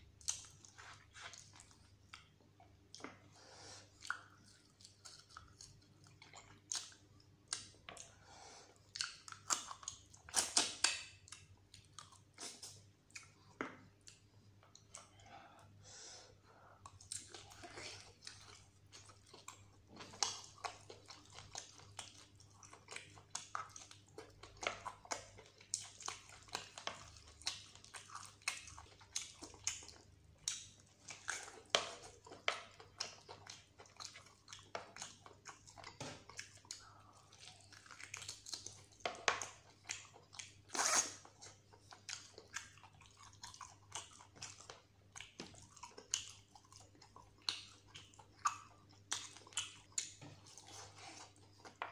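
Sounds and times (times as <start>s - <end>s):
man chewing food: 0.0s - 51.9s.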